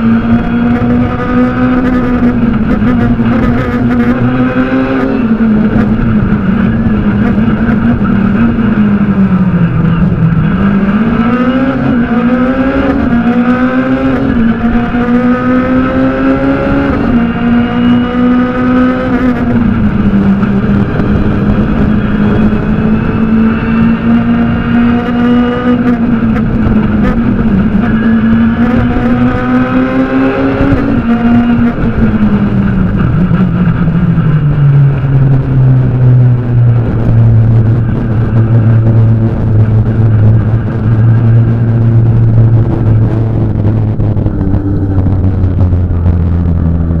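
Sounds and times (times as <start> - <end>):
rally car engine revving: 0.0 - 47.0.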